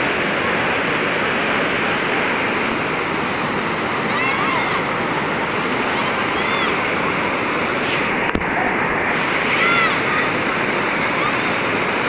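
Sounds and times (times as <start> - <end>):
river water pouring over weir: 0.0 - 12.0.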